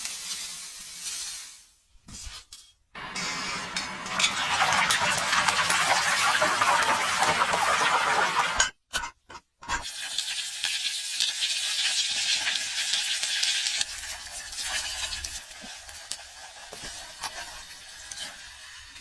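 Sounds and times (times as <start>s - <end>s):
food sizzling in hot oil: 0.0s - 1.8s, 3.0s - 8.8s, 9.7s - 19.0s.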